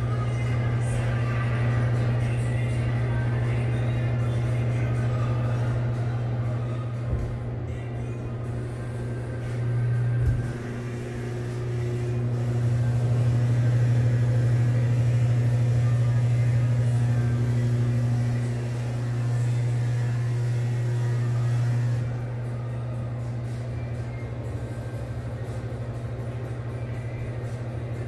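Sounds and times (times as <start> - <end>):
exhaust fan humming: 0.0 - 28.0.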